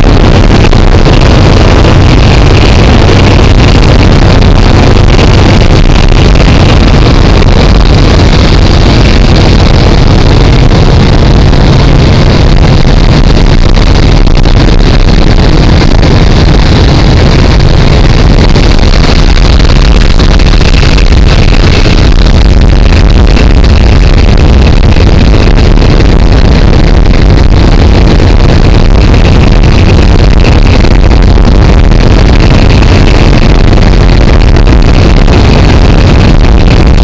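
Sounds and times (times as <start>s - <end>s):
radial aircraft engine running: 0.0s - 31.0s
loud wind noise: 0.0s - 37.0s.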